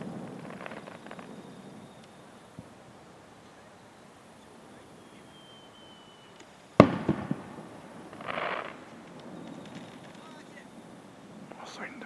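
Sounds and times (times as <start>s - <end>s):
firework bang: 0.0s - 5.3s, 5.9s - 12.0s
small firework pops: 0.0s - 12.0s.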